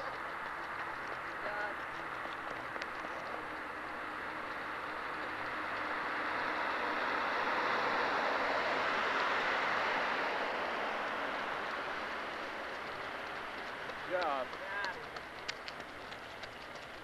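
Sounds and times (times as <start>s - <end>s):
cars passing on paved road: 0.0s - 17.0s.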